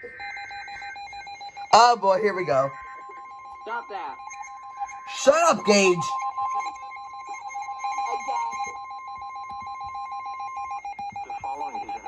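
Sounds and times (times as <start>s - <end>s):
steady alarm tone: 0.0s - 12.0s.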